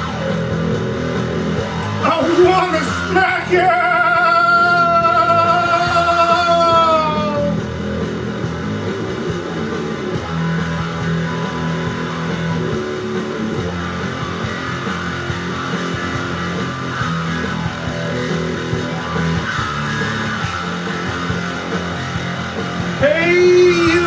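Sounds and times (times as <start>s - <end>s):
bass guitar: 0.0s - 24.0s
electric guitar: 0.0s - 24.0s.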